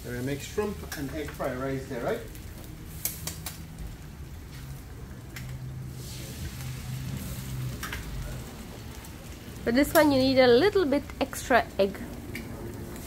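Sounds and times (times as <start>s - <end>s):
eggs sizzling on a griddle: 0.0s - 13.0s.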